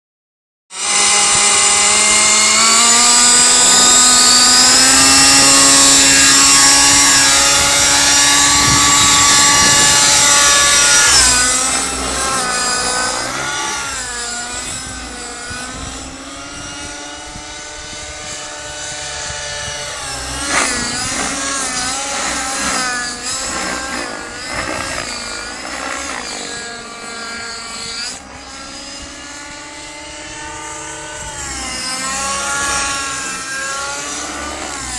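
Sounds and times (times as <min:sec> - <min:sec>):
model helicopter engine whine: 0:00.8 - 0:34.9.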